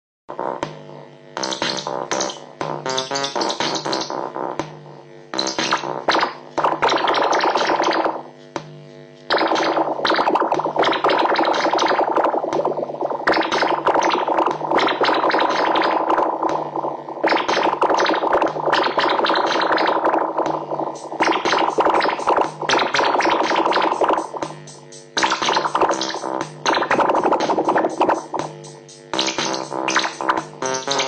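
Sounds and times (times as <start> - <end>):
distorted noisy guitar music: 0.3 - 31.0.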